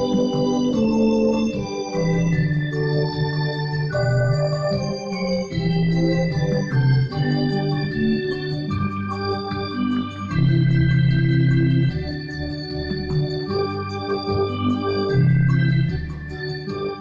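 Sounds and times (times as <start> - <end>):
electronic organ chords: 0.0 - 17.0
held bass notes: 0.0 - 17.0.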